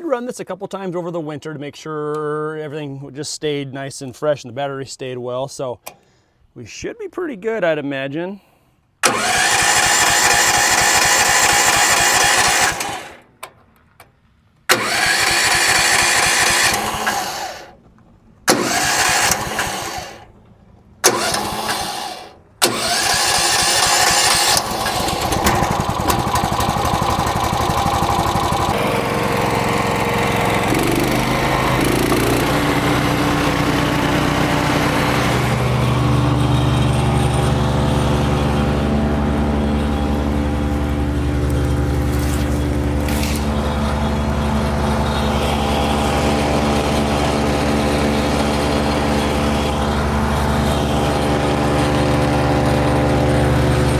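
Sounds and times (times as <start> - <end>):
gas engine starting and running: 9.0 - 53.9.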